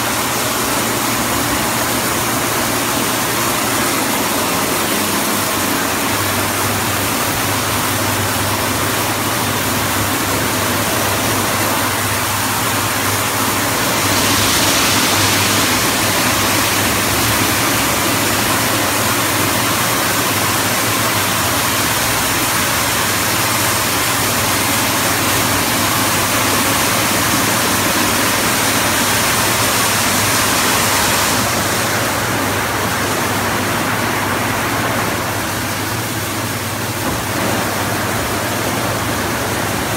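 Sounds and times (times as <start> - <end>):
car wash brushes and spray: 0.0 - 39.9
low machinery hum: 0.0 - 39.9.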